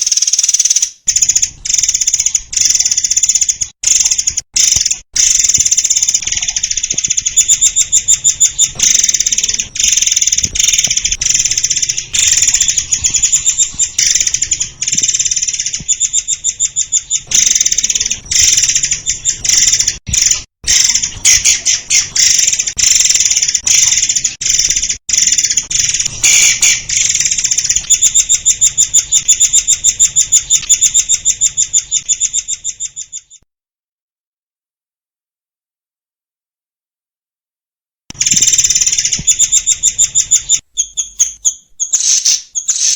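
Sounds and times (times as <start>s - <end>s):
bird chattering trills: 0.0s - 33.4s, 38.2s - 42.9s.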